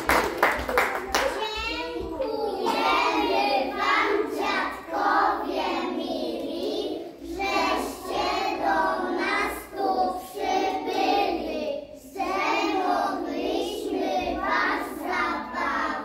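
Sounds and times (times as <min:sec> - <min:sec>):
young children singing: 0:01.0 - 0:16.0.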